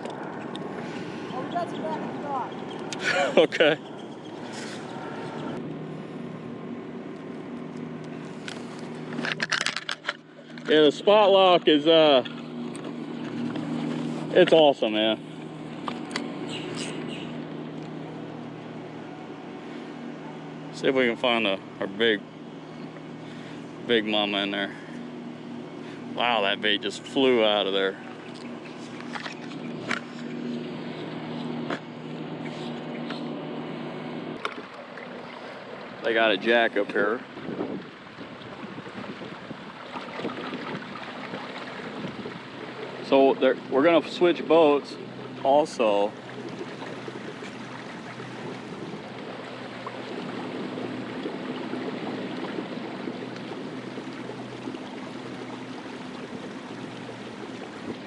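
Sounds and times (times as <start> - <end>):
water splashing around hull: 0.0 - 22.0, 22.6 - 58.0
electric motor humming: 10.5 - 58.0.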